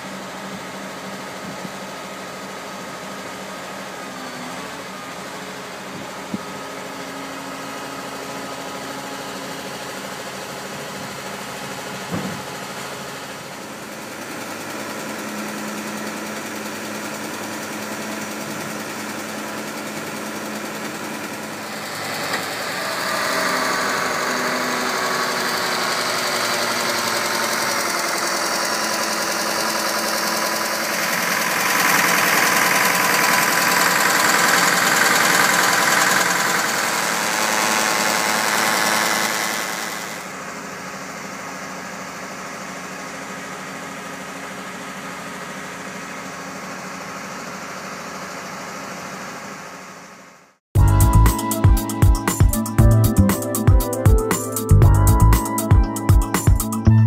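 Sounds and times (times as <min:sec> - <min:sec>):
baler engine running: 0:00.0 - 0:57.0.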